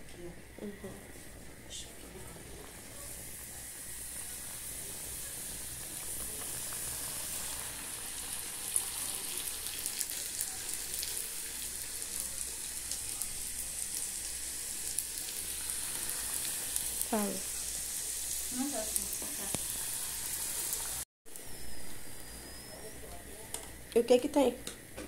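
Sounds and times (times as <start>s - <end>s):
dough sizzling in hot oil: 2.2s - 22.8s.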